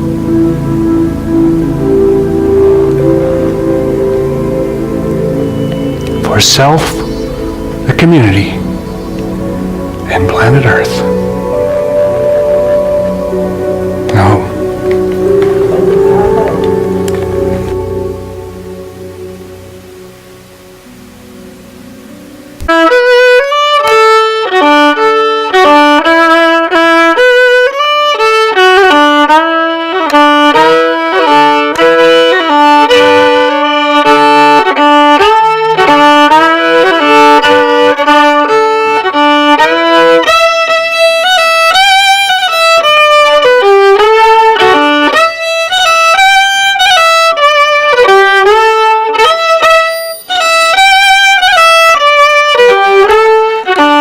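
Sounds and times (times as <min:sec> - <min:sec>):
violin playing quick melody: 0:00.0 - 0:20.0, 0:22.6 - 0:54.0.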